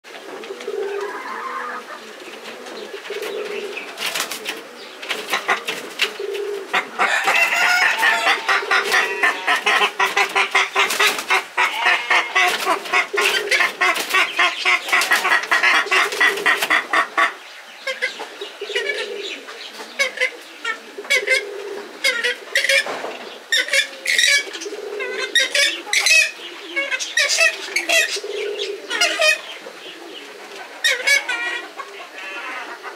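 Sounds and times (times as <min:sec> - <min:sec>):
swamphens calling: 0:02.8 - 0:32.9.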